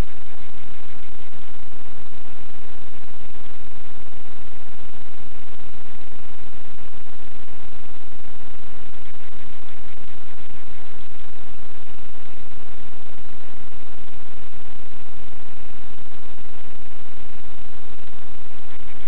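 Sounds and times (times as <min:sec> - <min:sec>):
faint buzzing tone: 0:00.0 - 0:19.0
steady electronic hiss: 0:00.0 - 0:19.0.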